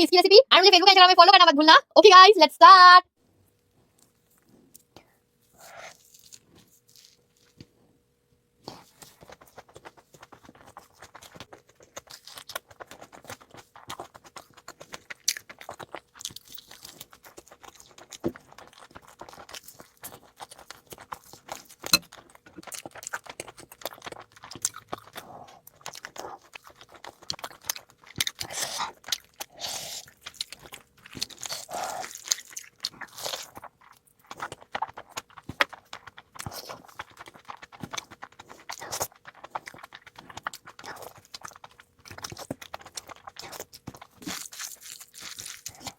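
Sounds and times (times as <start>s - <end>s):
person chewing and smacking lips: 4.0s - 7.8s, 8.6s - 45.9s
crunchy bites: 8.6s - 45.9s.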